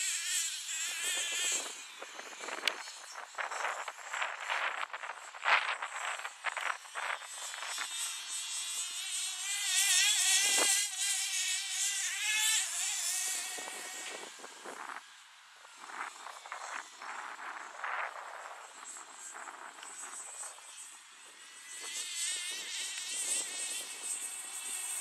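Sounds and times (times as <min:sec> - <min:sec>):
model car engines whining: 0:00.0 - 0:25.0.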